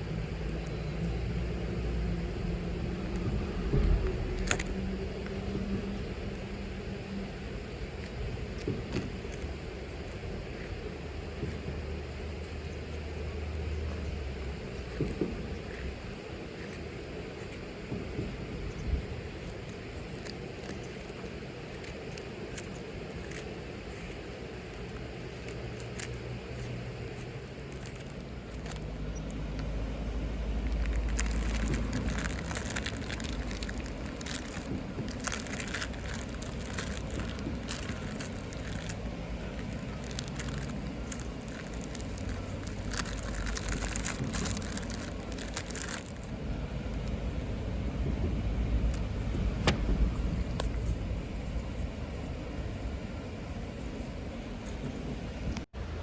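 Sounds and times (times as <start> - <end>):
low steady rumble: 0.0 - 56.0.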